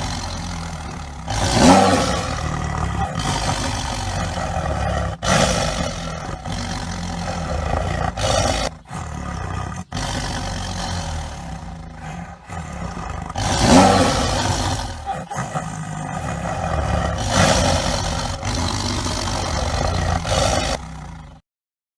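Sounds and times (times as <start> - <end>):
tigers roaring: 0.0 - 21.4.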